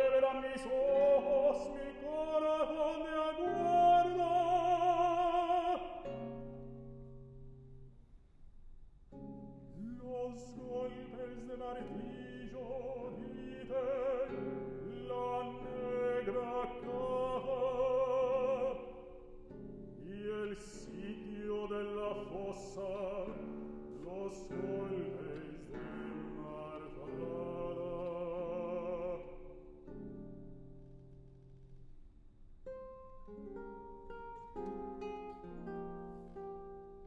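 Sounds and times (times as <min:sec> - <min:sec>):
man singing classical notes: 0:00.0 - 0:07.8, 0:09.2 - 0:31.5
classical guitar: 0:00.0 - 0:37.0.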